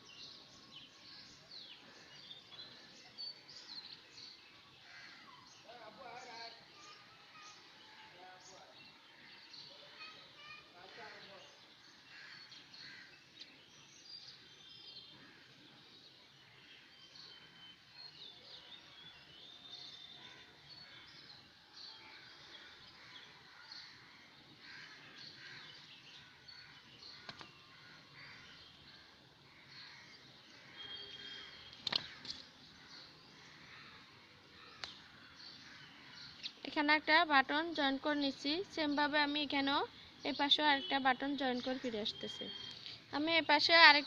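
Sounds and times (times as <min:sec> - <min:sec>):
faint birds chirping: 0:00.0 - 0:44.0.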